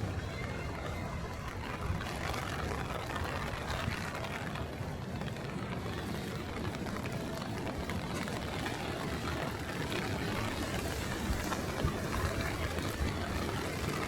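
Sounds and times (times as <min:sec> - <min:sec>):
heavy rain: 0:00.0 - 0:14.0
traffic on wet streets: 0:00.0 - 0:14.0.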